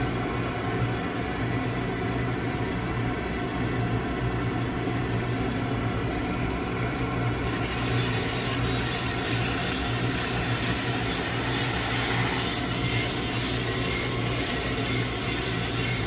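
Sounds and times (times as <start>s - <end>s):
coffee roaster motor hum: 0.0s - 16.0s.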